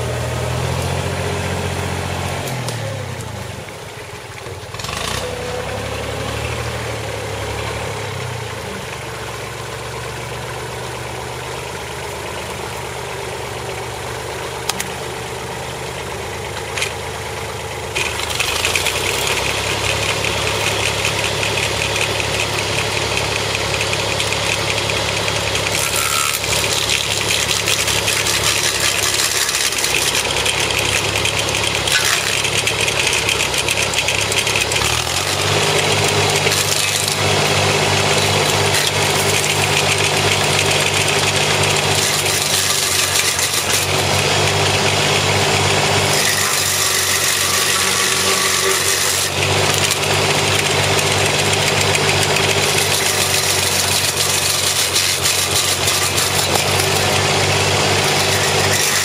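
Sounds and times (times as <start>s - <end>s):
stump grinder: 0.0s - 59.0s
tractor diesel engine running: 0.0s - 59.0s.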